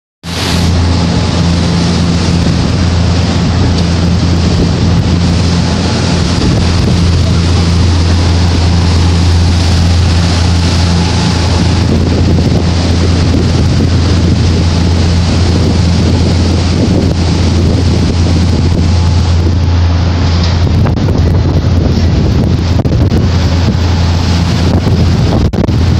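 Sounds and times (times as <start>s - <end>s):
boat engines droning: 0.2s - 25.9s
rush of boat wake: 0.2s - 25.9s
wind buffeting microphone: 0.4s - 25.9s.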